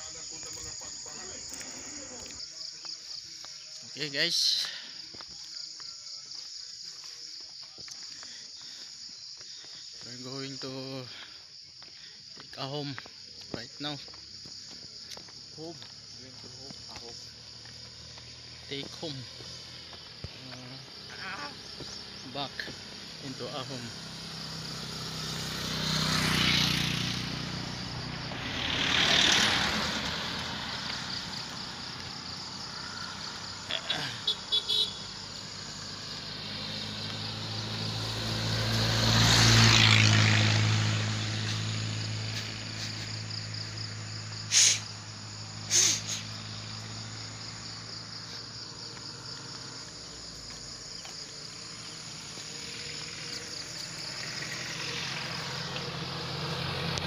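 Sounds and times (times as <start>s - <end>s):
high insect drone: 0.0s - 57.0s
road vehicles passing: 0.0s - 57.0s.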